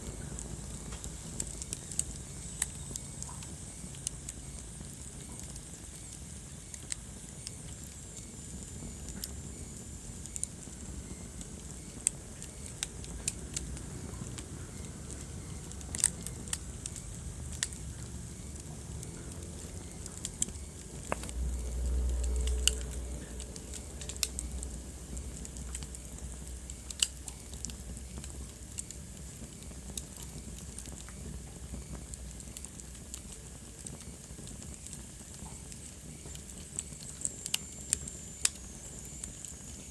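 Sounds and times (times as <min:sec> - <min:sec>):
low rushing of flames: 0:00.0 - 0:39.9
wood fire crackling and popping: 0:00.0 - 0:39.9.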